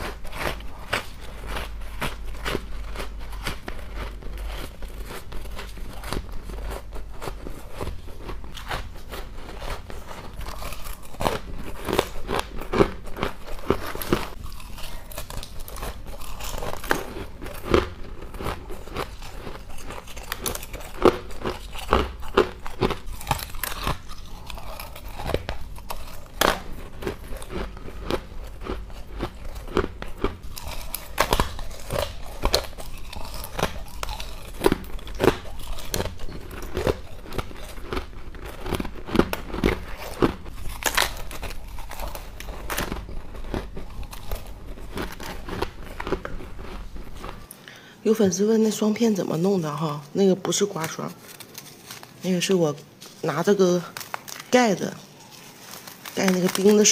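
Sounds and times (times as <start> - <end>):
chewing crunchy ice: 0.0 - 47.6, 53.0 - 56.9.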